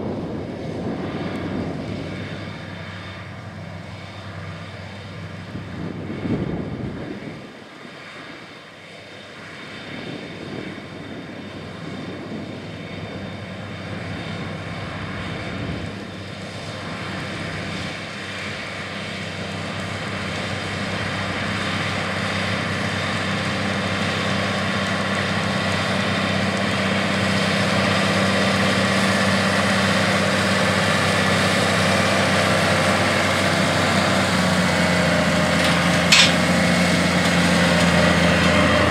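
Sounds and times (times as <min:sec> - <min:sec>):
tractor diesel engine under load: 0:00.0 - 0:07.6, 0:08.8 - 0:38.9.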